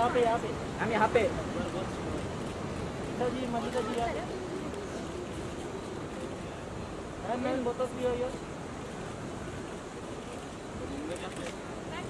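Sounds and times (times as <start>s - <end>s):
steady hiss and low rumble: 0.0s - 12.0s.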